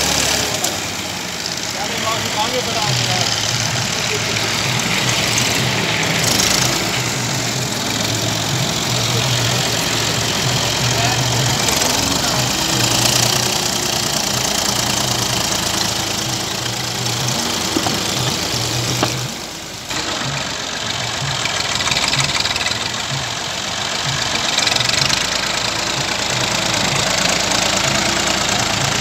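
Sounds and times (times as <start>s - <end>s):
tractor diesel engine clattering: 0.0s - 29.0s.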